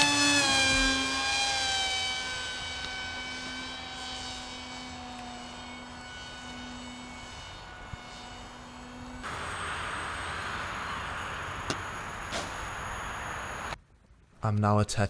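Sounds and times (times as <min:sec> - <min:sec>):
electric model plane motor whine: 0:00.0 - 0:13.8.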